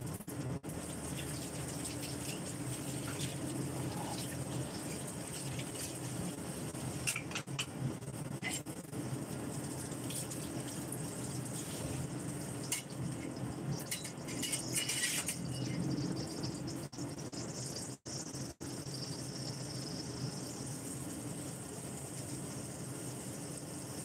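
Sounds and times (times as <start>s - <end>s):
food simmering with bubbling hiss: 0.0s - 24.0s.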